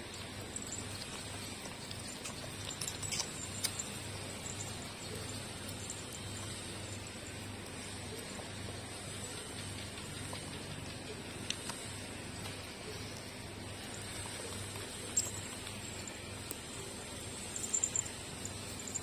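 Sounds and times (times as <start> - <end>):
puppies suckling smacking: 0.0 - 19.0
steady hiss and hum: 0.0 - 19.0.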